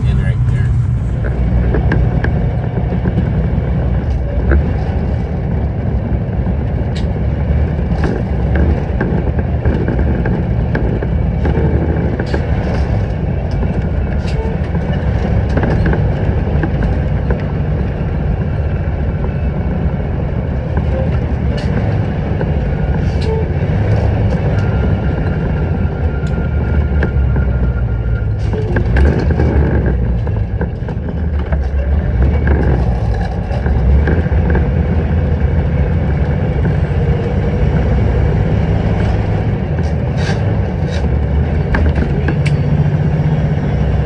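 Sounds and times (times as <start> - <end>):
diesel truck engine rumbling: 0.0 - 44.0.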